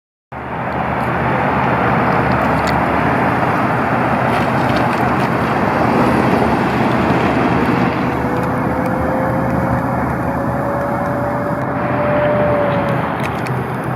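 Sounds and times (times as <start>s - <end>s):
diesel engine running: 0.3s - 13.9s
road noise: 0.3s - 13.9s.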